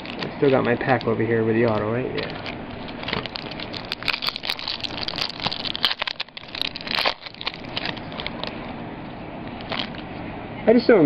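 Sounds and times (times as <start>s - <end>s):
foil wrapper crinkling: 0.0s - 8.8s, 9.5s - 10.1s.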